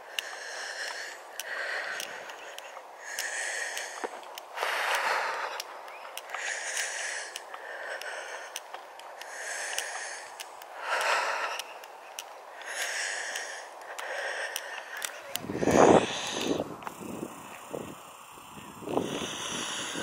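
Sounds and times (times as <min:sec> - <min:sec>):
faint ticks: 0:00.0 - 0:20.0
person breathing heavily: 0:00.0 - 0:20.0.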